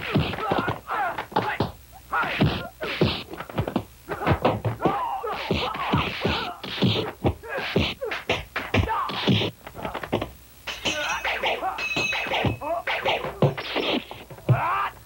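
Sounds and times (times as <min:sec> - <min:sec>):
fighters yelling and grunting: 0:00.0 - 0:10.1, 0:10.8 - 0:15.0.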